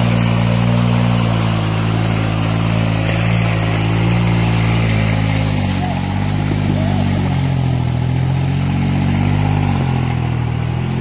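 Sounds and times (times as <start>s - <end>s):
tractor diesel engine labouring: 0.0s - 11.0s.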